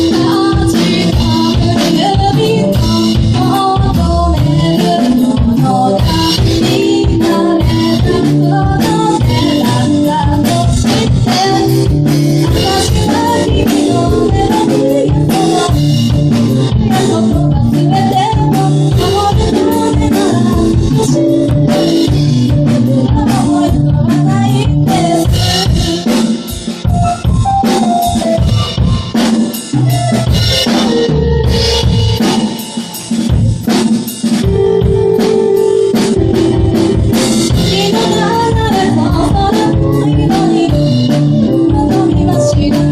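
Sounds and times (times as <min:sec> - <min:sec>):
bass and chords: 0:00.0 - 0:42.9
drum kit playing: 0:00.0 - 0:42.9.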